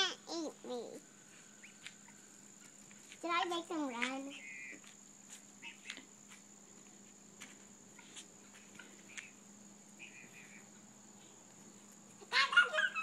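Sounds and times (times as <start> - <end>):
faint distant chirps and ticks: 0.0 - 12.4
crickets trilling: 0.0 - 13.0.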